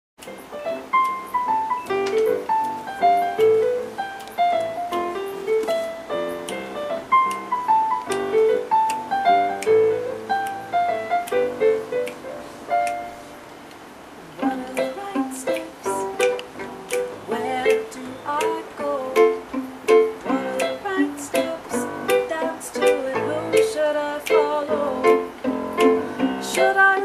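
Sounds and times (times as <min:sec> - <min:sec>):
electronic keyboard piano melody: 0:00.2 - 0:13.7, 0:14.4 - 0:27.0.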